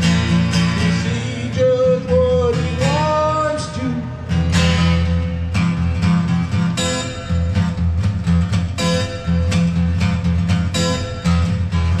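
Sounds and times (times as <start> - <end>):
guitar strumming: 0.0 - 12.0.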